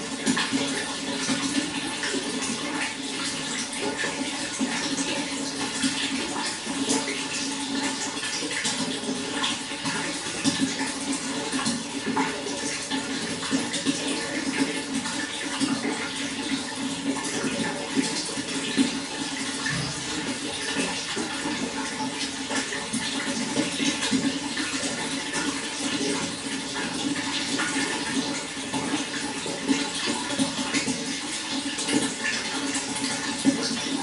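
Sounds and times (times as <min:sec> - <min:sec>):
running water: 0:00.0 - 0:34.0.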